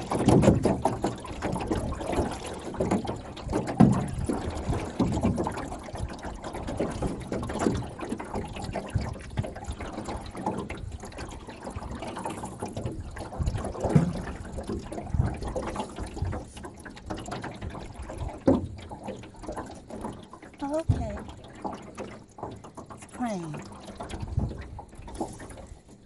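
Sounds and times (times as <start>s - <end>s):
small waves lapping against boat: 0.0s - 26.0s.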